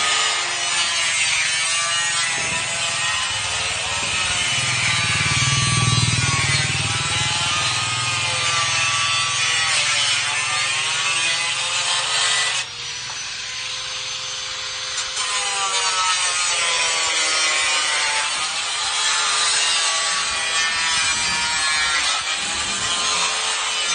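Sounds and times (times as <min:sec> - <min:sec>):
power saw cutting wood: 0:00.0 - 0:23.9.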